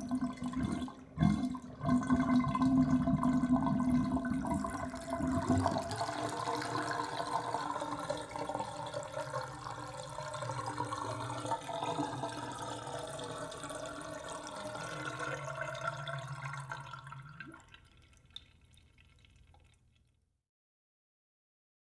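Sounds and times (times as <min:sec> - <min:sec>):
water gurgling down drain: 0:00.0 - 0:19.9
water dripping: 0:00.0 - 0:20.2.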